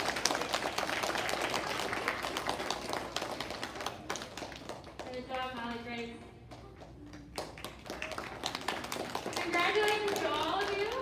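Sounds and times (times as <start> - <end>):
children clapping: 0.0 - 5.3, 6.4 - 11.0.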